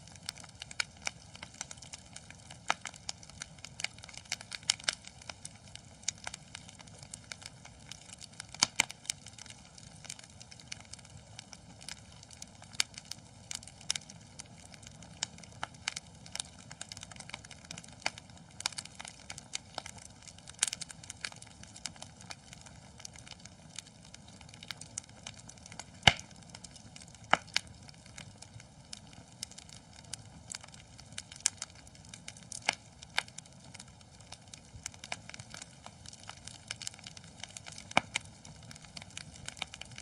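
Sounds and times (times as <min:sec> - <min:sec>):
soft steady hiss: 0:00.0 - 0:40.0
wood fire crackling and popping: 0:00.0 - 0:40.0.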